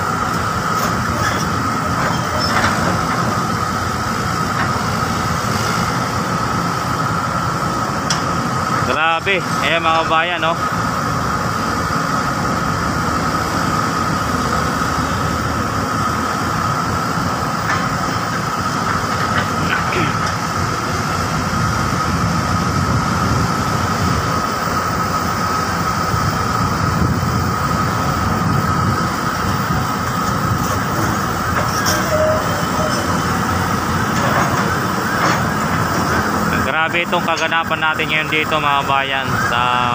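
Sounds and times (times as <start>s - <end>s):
continuous machine whine: 0.0s - 39.9s
excavator diesel engines rumbling: 0.0s - 39.9s.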